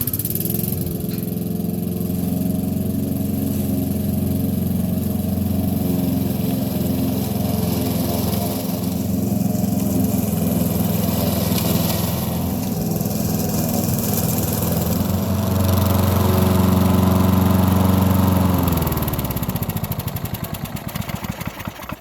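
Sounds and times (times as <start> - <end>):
lawnmower engine running: 0.0 - 22.0.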